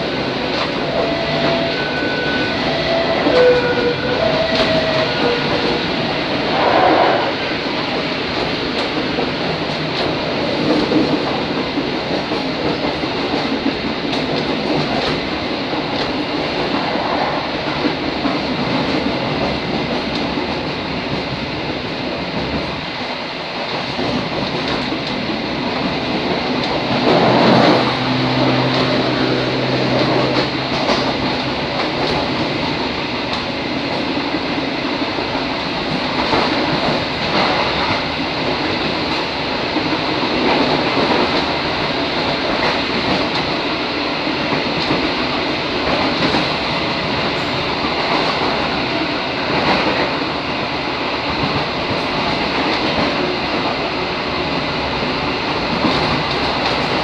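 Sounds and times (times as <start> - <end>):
rail-joint clacks: 0.0 - 57.0
railcar rumbling along track: 0.0 - 57.0.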